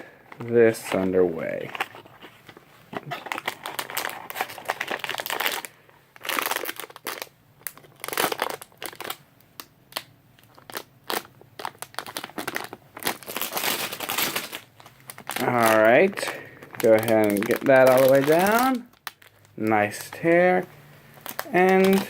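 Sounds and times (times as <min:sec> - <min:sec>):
packaging crinkling: 0:00.0 - 0:22.0.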